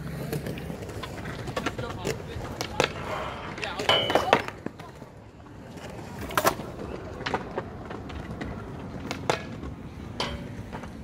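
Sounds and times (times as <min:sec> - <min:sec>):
skateboard wheels rolling on concrete: 0:00.0 - 0:11.0
skateboard wooden clacks: 0:00.0 - 0:11.0.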